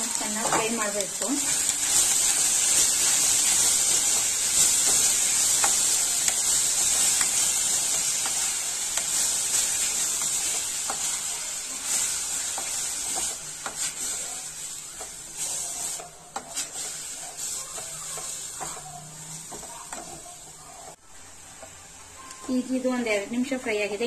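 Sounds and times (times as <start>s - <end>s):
carrot sizzling in a pan: 0.0s - 24.0s
wooden spatula scraping and tapping: 0.2s - 11.2s, 12.0s - 20.3s.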